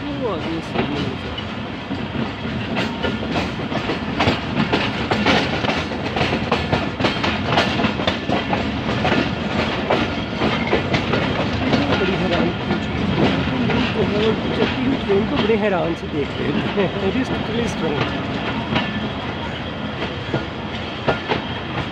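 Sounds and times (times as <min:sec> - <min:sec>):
train rumble: 0:00.0 - 0:21.9
train wheels clattering over rails: 0:00.0 - 0:21.9.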